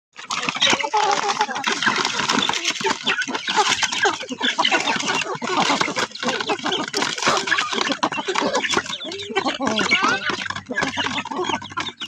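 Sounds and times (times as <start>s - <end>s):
poultry clucking: 0.2s - 12.0s.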